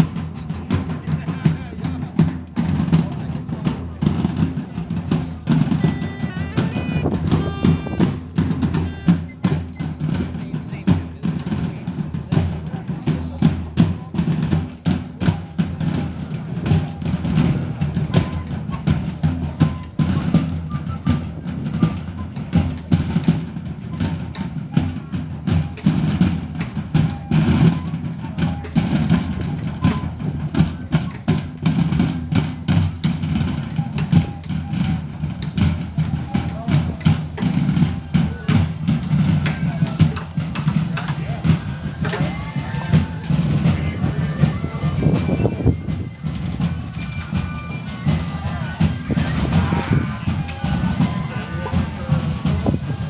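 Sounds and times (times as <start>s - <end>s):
bass and snare drums: 0.0s - 53.0s.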